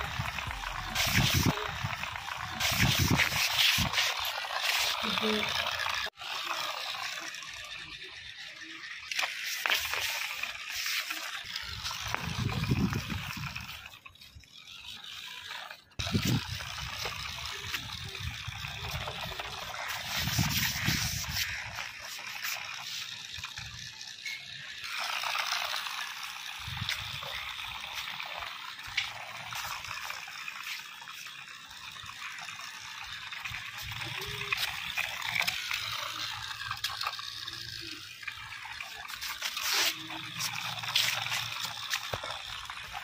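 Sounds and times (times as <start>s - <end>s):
plastic wheels rolling on concrete: 0.0s - 43.0s
toy gear motor whirring: 0.0s - 43.0s.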